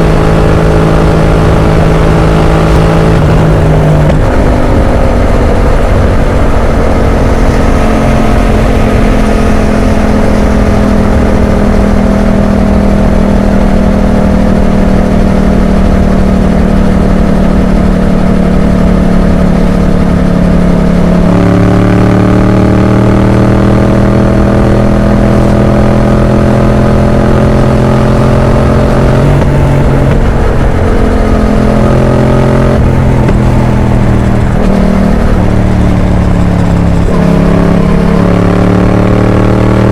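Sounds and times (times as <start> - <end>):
motorcycle engine in traffic: 0.0 - 39.9.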